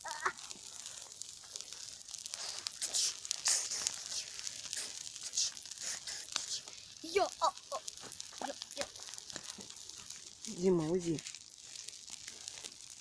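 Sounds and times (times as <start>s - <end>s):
campfire crackling: 0.0s - 13.0s
fire hissing: 0.0s - 13.0s.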